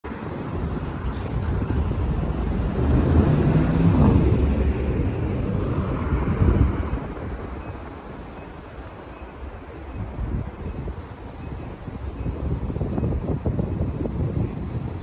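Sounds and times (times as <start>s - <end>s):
traffic rumble of passing cars: 0.0s - 15.0s.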